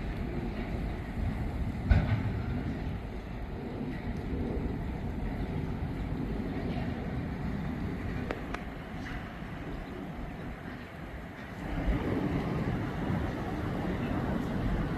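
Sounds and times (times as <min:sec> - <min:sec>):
train wagons rumbling past: 0:00.0 - 0:14.9
wind on microphone: 0:00.0 - 0:14.9.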